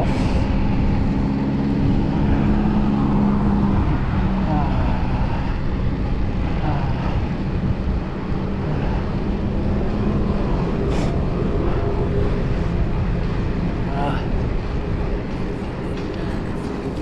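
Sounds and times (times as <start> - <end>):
low rumble with droning hum: 0.0 - 17.0
wind: 0.0 - 17.0.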